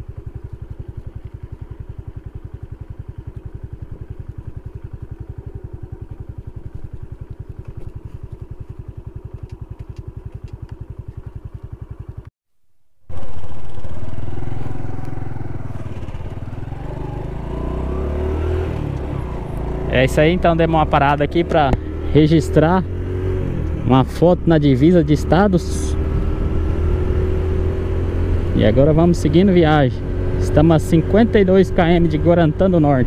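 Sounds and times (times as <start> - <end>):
motorcycle accelerating: 0.0 - 12.3, 13.1 - 33.0
motorcycle engine idling: 0.0 - 12.3, 13.1 - 33.0.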